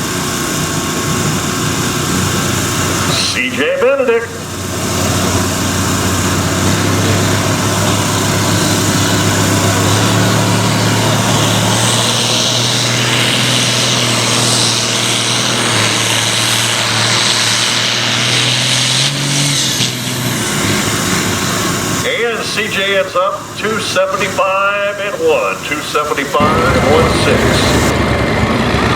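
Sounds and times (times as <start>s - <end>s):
tractor engine under heavy load: 0.0s - 28.9s.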